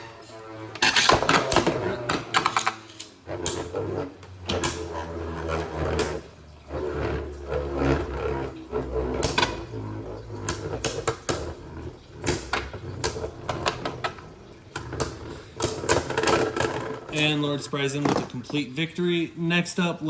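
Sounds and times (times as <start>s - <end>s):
spinning tops whirring: 0.0s - 19.2s.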